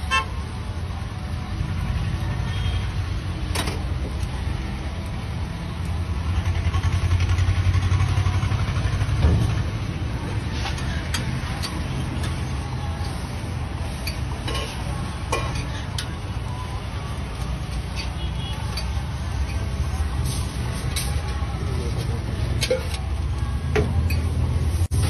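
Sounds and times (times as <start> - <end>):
low rumble of traffic: 0.0 - 25.0
vehicle engine: 0.0 - 25.0.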